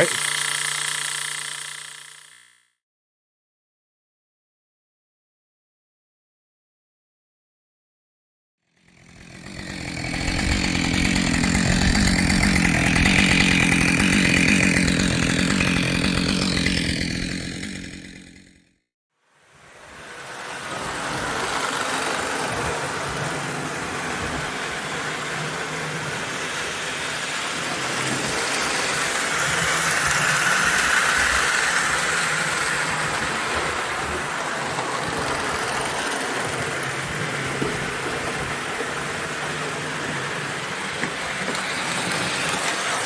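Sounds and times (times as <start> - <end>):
toy train buzzing rattle: 0.0 - 2.7, 8.8 - 18.6, 19.4 - 43.0.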